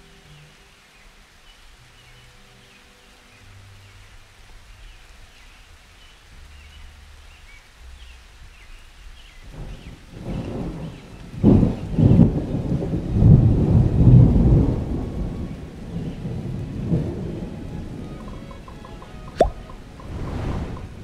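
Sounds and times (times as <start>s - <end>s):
low held background notes: 0.0s - 21.0s
rain-like hiss: 0.0s - 21.0s.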